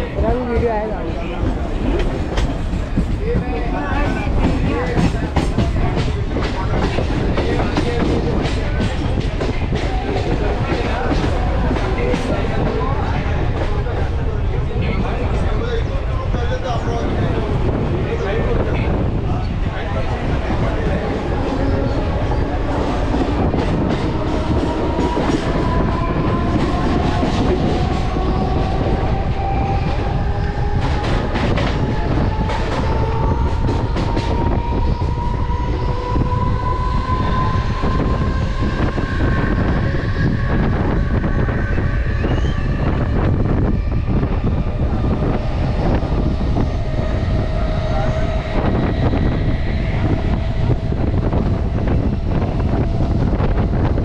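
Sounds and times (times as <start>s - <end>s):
rail clacks: 0.0s - 14.1s, 16.9s - 54.0s
train wheels rumbling on rails: 0.0s - 54.0s.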